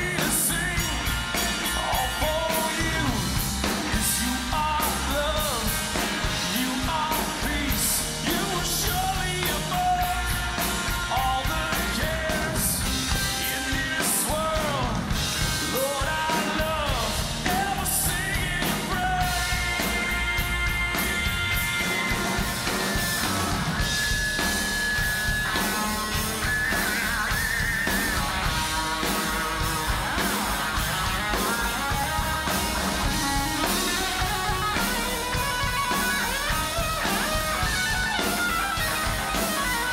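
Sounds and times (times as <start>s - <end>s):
person singing: 0.0s - 23.5s, 25.4s - 39.9s
bass guitar: 0.0s - 39.9s
drum kit: 0.0s - 39.9s
electric guitars: 0.0s - 39.9s.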